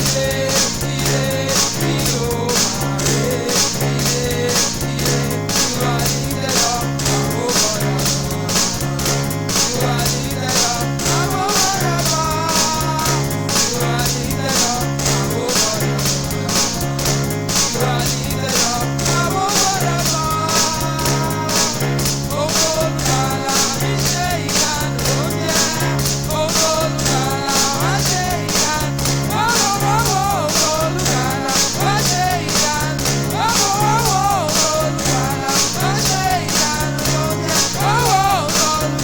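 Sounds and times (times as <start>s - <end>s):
praise band music: 0.0s - 39.0s.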